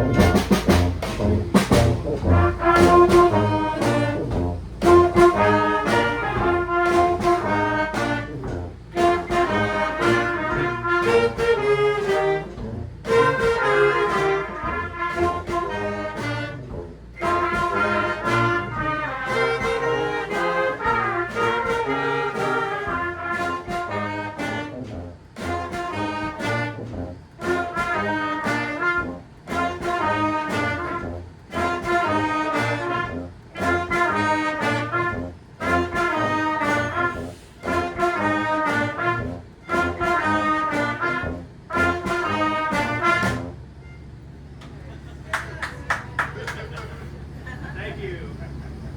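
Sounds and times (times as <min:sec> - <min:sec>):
brass band playing: 0:00.0 - 0:44.5.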